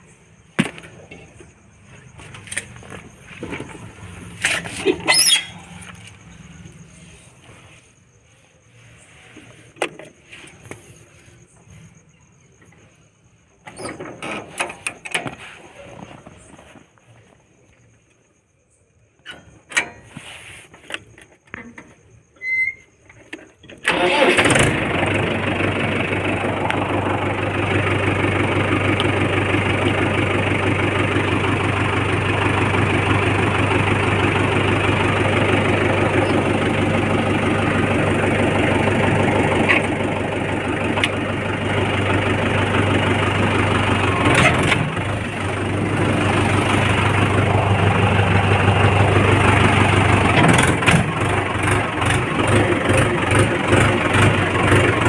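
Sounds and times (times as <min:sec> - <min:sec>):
tractor engine idling: 0:00.0 - 0:18.1, 0:19.5 - 0:55.0.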